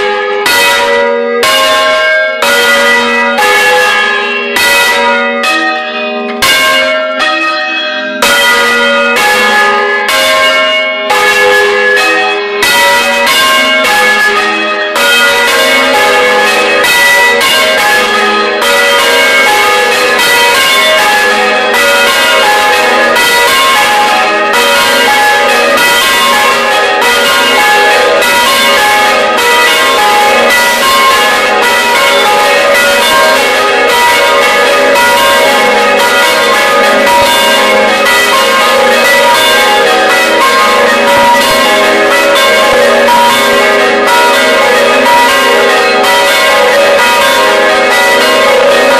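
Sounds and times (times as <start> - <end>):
church bells pealing: 0.0 - 48.9.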